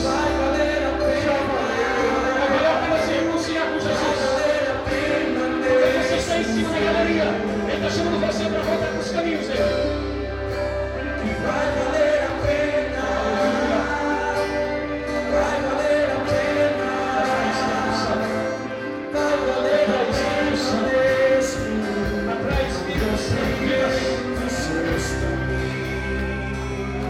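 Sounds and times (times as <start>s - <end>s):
band playing gospel music: 0.0s - 27.0s
person singing: 0.0s - 27.0s.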